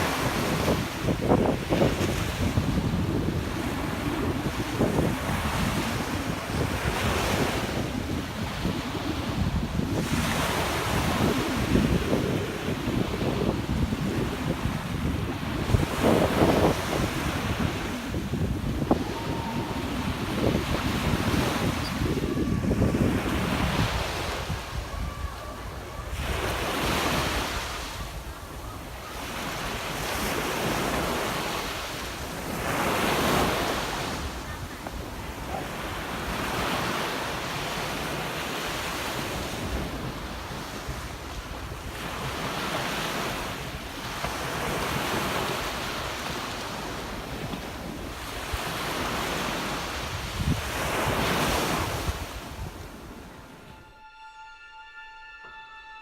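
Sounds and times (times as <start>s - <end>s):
sea waves breaking on beach: 0.0s - 53.7s
wind rumbling on microphone: 0.0s - 53.9s.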